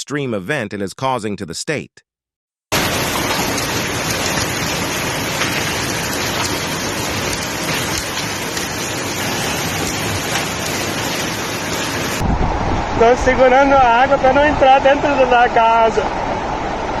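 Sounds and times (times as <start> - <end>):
water rushing: 2.7 - 17.0.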